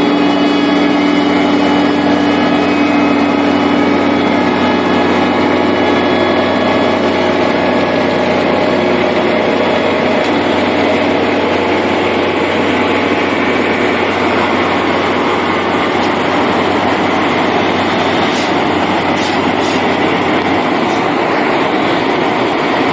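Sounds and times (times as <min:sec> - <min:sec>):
heavy construction machinery running: 0:00.0 - 0:22.9.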